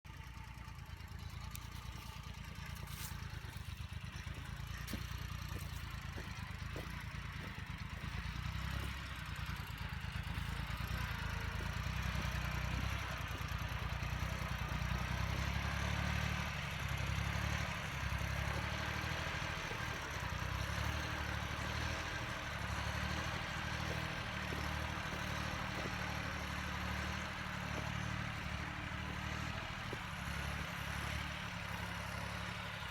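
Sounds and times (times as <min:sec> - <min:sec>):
tractor engine with rotary tiller: 0:00.0 - 0:32.9.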